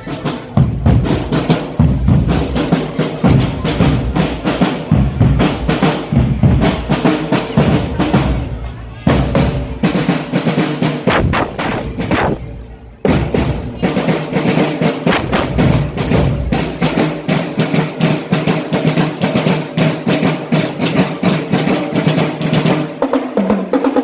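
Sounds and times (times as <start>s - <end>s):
marching drum band playing: 0.0s - 24.0s.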